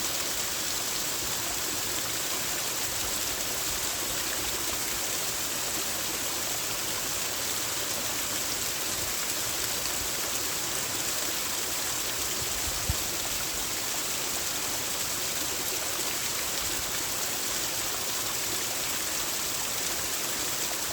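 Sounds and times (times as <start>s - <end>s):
creek water over small waterfalls: 0.0s - 20.9s.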